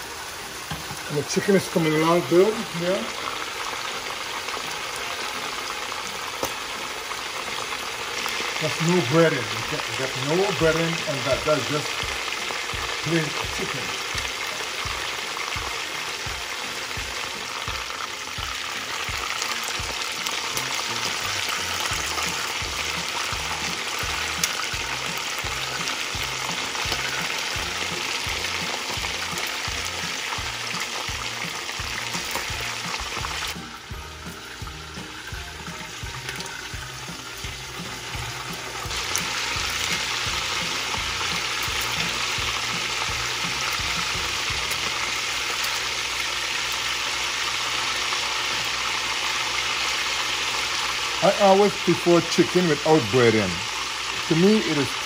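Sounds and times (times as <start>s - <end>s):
chicken frying in oil: 0.0s - 55.0s.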